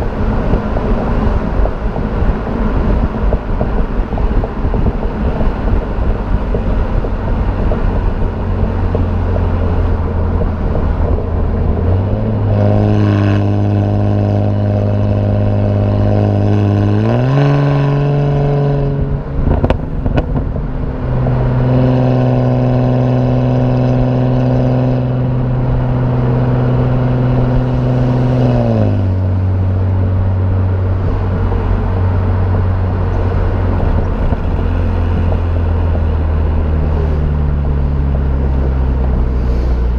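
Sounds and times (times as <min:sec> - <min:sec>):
car engine through performance exhaust: 0:00.0 - 0:39.9.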